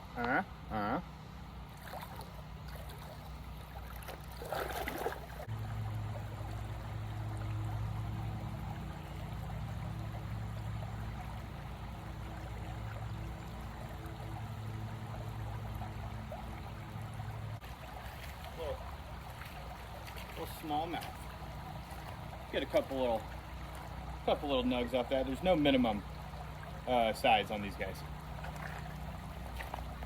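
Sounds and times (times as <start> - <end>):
low hum: 0.0 - 30.0
creek water trickling: 0.2 - 30.0.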